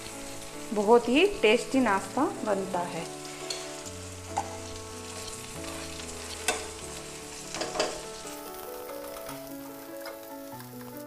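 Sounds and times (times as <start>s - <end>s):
food sizzling in a pan: 0.0s - 11.0s
soft background music: 0.0s - 11.0s.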